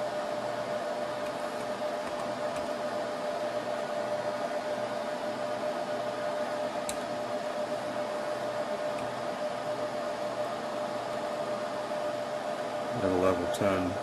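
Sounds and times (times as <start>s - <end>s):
server cooling fans: 0.0s - 14.0s.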